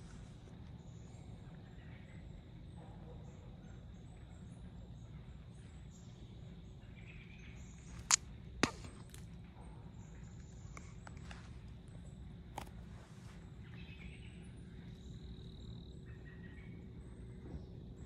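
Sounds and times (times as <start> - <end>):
faint distant bird chirps: 0.0 - 18.0.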